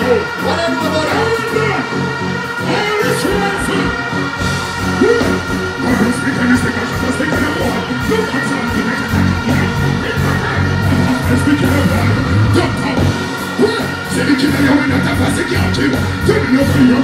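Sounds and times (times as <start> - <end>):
loud music from sound system: 0.0 - 17.0
performer singing: 0.0 - 17.0.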